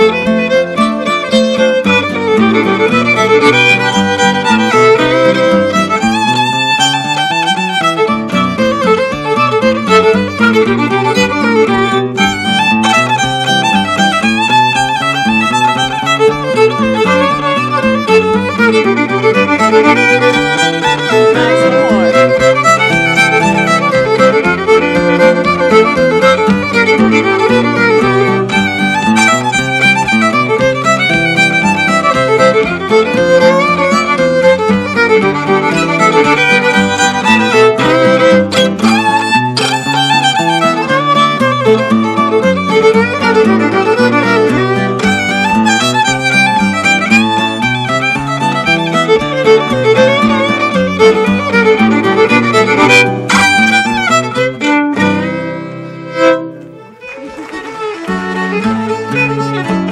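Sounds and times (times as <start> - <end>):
acoustic guitar rhythm: 0.0 - 59.9
fiddle melody: 0.0 - 59.9.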